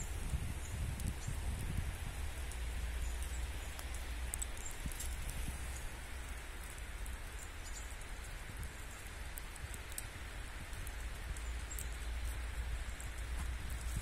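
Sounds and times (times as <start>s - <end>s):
wet snow falling and dripping: 0.0s - 14.0s.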